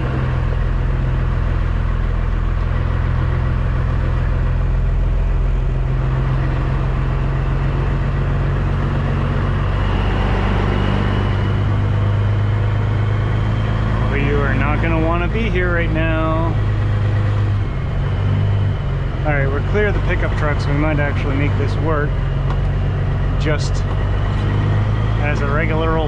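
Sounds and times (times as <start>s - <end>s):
diesel truck engine drone: 0.0s - 26.0s.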